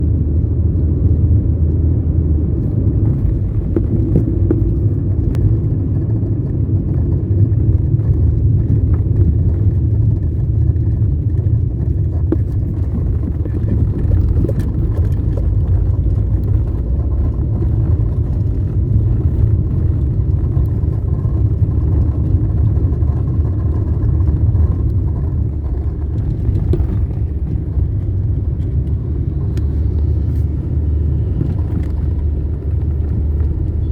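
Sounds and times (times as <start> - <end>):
car engine rumble: 0.0 - 33.9
short engine clicks and knocks: 2.4 - 33.9.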